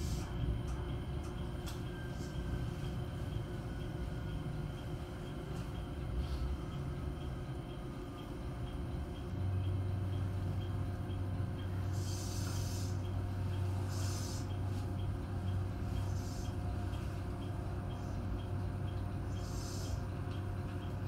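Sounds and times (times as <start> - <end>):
electric train hum: 0.0 - 21.0.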